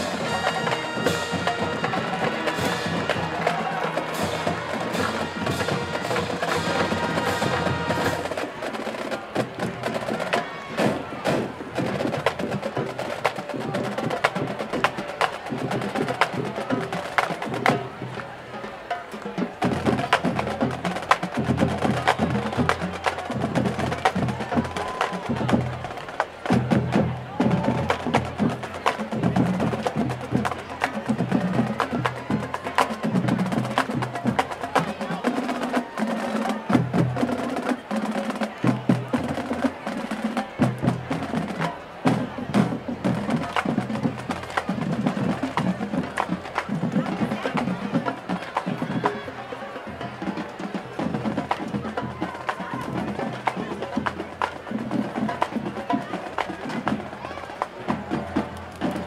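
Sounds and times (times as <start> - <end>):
crowd chatter: 0.0 - 59.0
marching drumline playing: 0.0 - 59.0.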